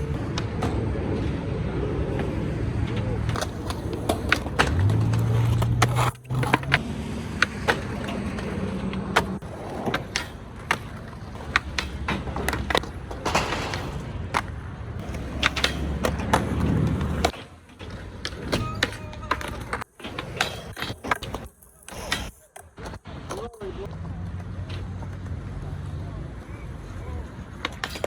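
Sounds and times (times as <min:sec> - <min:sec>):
skateboard clacking on ground: 0:00.0 - 0:28.0
skateboard wheels rumbling: 0:00.0 - 0:28.0.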